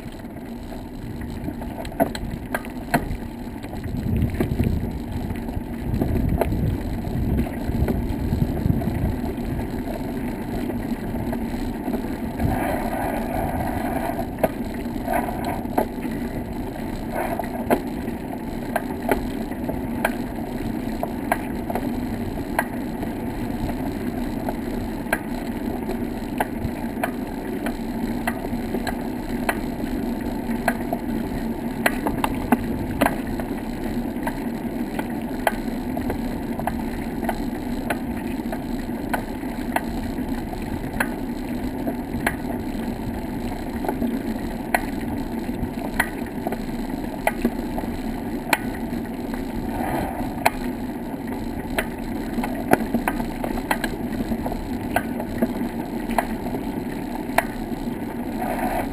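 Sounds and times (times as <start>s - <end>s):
bicycle tyres rumbling on boards: 0.0s - 58.9s.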